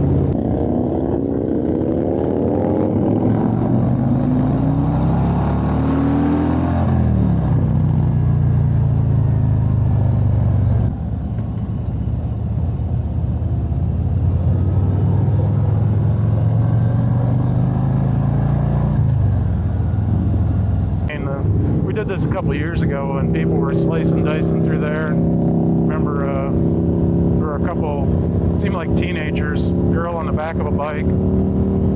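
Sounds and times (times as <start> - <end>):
motorcycle engine running: 0.0 - 4.9, 6.7 - 31.9.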